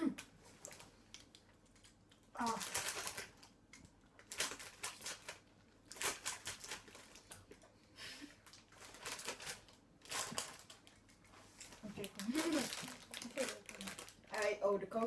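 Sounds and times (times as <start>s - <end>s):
plastic packet crinkling: 0.6s - 3.6s, 4.2s - 7.5s, 8.4s - 14.5s.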